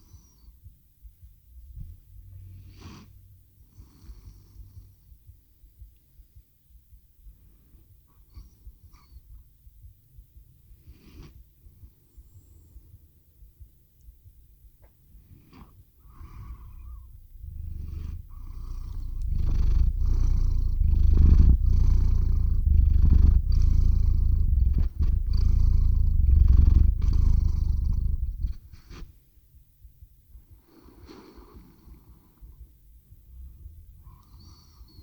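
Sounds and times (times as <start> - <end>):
cat purring: 0.0 - 29.3, 29.9 - 35.0.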